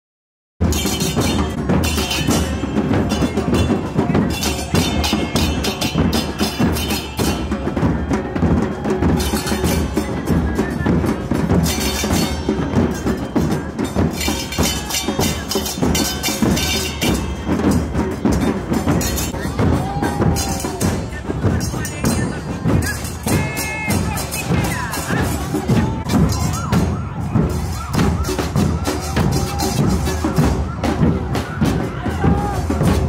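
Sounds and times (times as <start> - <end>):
percussion music: 0.6 - 33.0.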